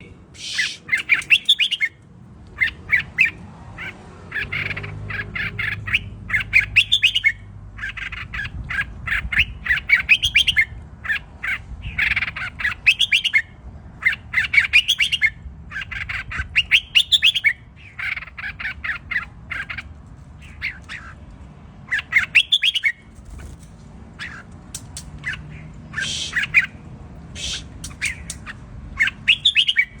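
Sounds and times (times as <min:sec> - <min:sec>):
bird singing warbled phrases: 0:00.0 - 0:02.0, 0:02.6 - 0:30.0.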